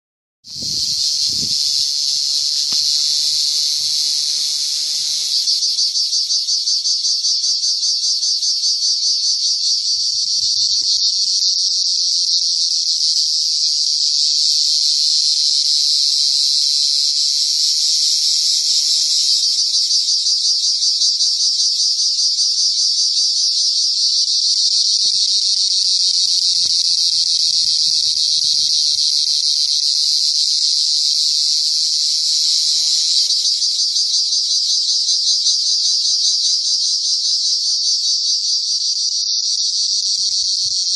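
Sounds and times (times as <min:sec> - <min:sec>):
cricket trilling: 0:00.5 - 0:40.9.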